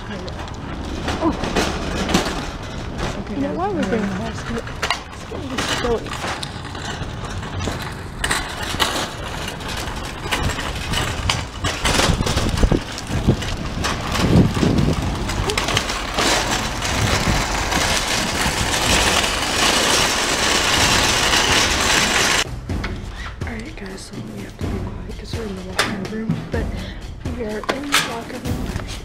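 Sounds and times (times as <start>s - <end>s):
shopping cart basket rattling: 0.0s - 22.5s, 23.1s - 29.0s
cart wheels clattering: 0.0s - 29.0s
wheels rumbling on asphalt: 0.0s - 29.0s.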